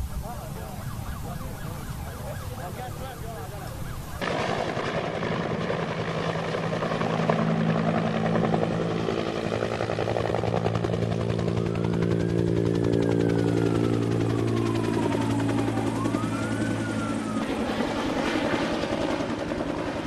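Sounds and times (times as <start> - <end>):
helicopter rotor chop: 0.0 - 20.0
siren wailing: 0.0 - 20.0.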